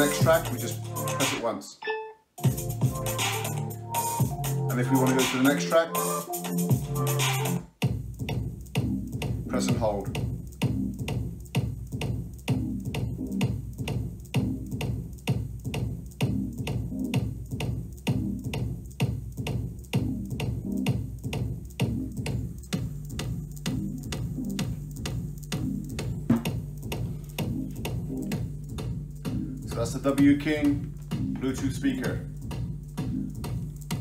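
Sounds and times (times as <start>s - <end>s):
electronic dance music: 0.0s - 1.6s, 2.4s - 34.0s.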